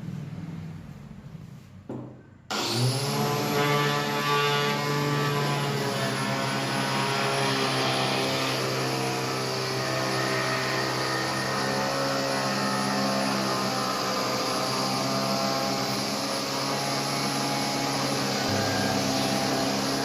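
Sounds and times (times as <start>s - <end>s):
angle grinder motor whine: 2.5s - 20.0s.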